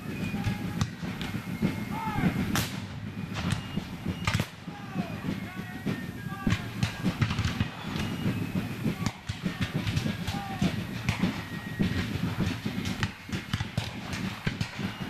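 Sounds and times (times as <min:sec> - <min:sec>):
steady low rumble: 0:00.1 - 0:14.9.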